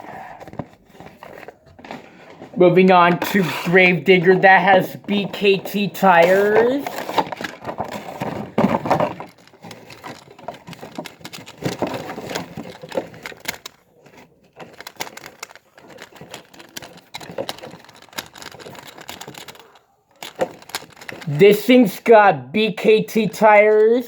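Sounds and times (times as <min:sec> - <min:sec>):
plastic packaging crackling: 0:00.1 - 0:21.3.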